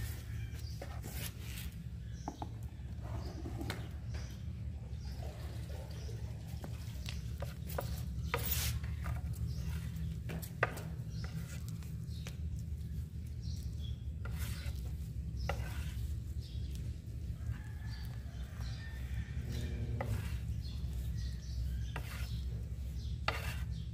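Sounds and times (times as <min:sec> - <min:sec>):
mixing tool scraping paste: 0:00.0 - 0:04.4, 0:06.6 - 0:23.9
steady low hum: 0:00.0 - 0:23.9.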